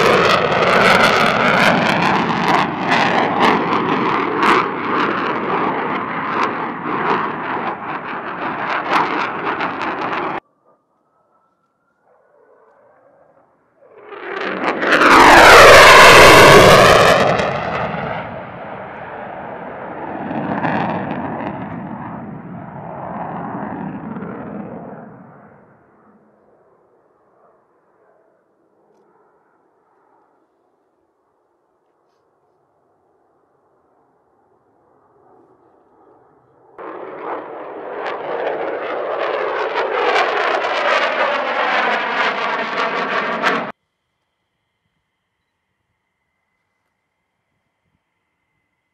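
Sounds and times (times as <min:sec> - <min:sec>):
jet passing low overhead: 0:00.0 - 0:43.8.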